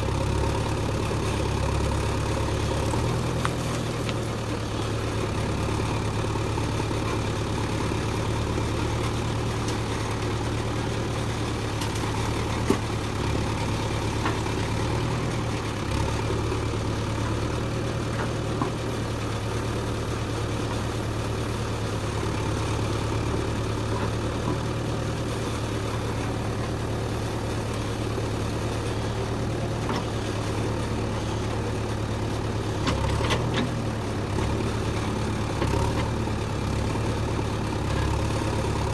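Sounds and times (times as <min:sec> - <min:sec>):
diesel engine running at low revs: 0:00.0 - 0:38.9.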